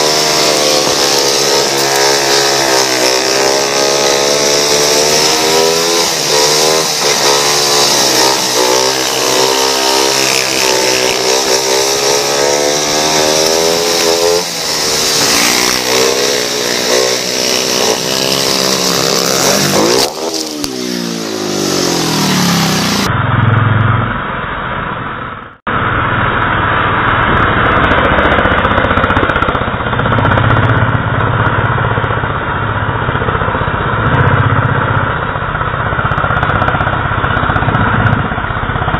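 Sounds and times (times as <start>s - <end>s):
motorcycle engine racing: 0.0s - 38.9s.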